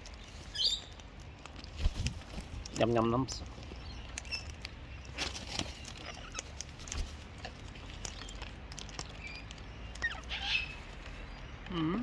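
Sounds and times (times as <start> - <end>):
birds pecking at seed: 0.0 - 12.0.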